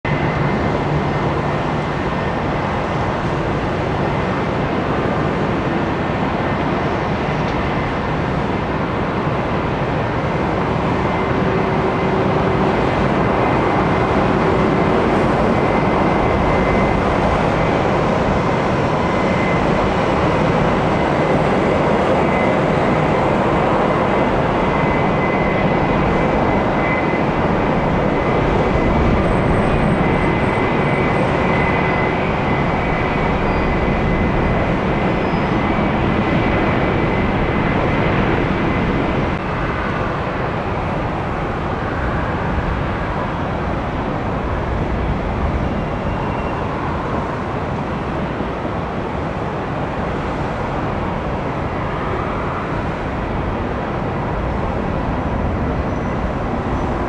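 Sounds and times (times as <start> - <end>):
high engine whine: 0.0 - 57.0
jet engines roaring: 0.0 - 57.0.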